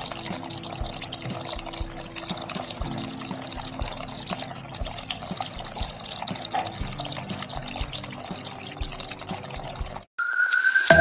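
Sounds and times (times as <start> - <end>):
fountain water trickling: 0.0 - 10.1.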